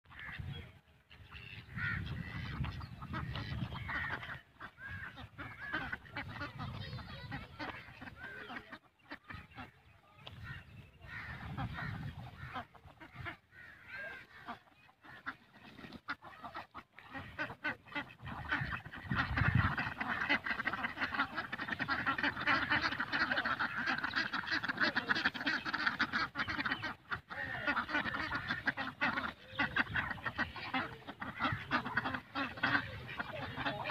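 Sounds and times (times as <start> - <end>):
ducks quacking: 0.1 - 33.9.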